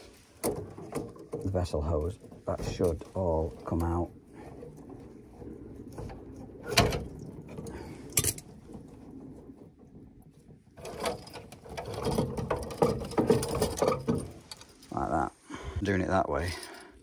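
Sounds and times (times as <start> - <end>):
pipe fittings clicking and rattling: 0.0 - 15.1.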